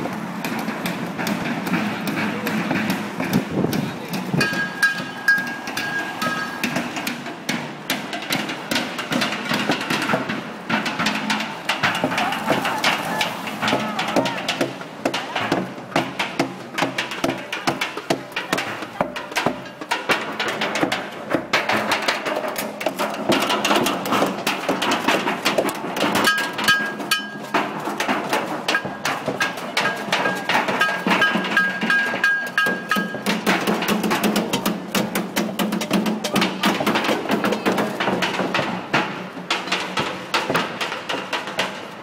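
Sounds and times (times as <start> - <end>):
drumming and banging: 0.0 - 42.0.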